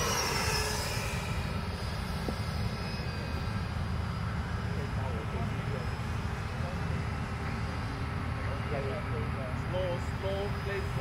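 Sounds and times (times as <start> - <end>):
model jet whine: 0.0 - 11.0.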